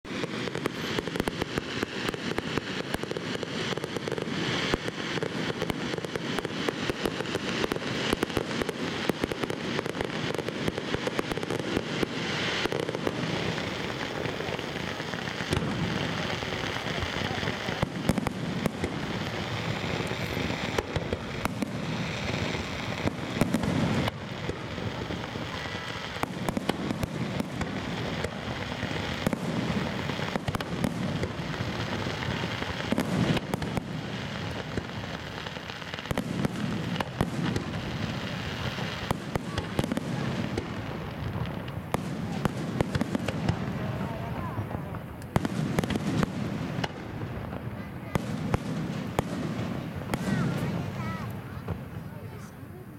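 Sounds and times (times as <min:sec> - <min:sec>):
fireworks crackling and popping: 0:00.0 - 0:52.9.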